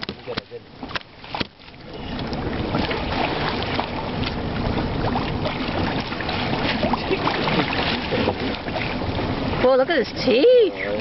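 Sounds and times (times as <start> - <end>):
water rushing around hull: 0.0 - 11.0.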